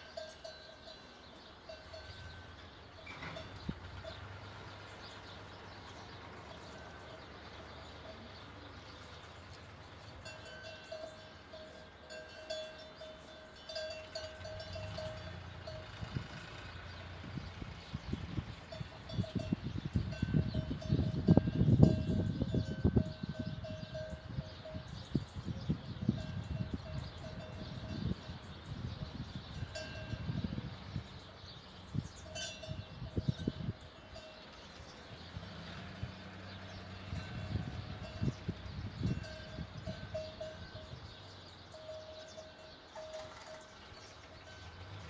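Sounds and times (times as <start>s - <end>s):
livestock bell clanking: 0.0s - 45.0s.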